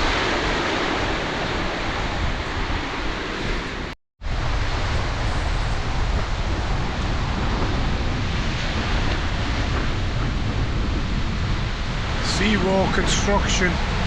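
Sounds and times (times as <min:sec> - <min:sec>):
sea surf washing: 0:00.0 - 0:14.0
wind buffeting microphone: 0:00.0 - 0:14.0.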